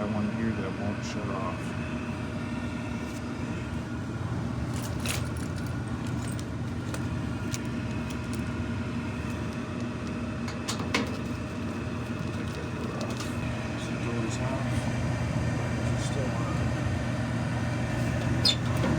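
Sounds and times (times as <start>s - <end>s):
furnace humming: 0.0s - 18.9s.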